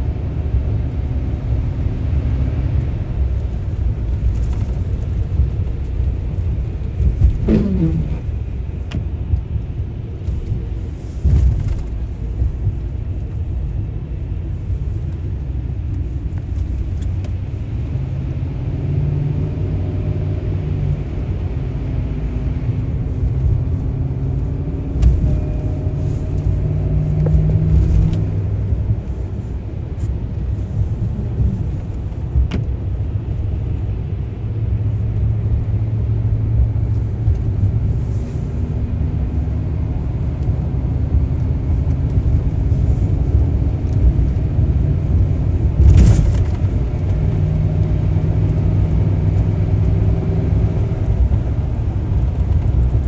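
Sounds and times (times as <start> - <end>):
car driving on road: 0.0 - 53.0
low engine hum: 0.0 - 53.0.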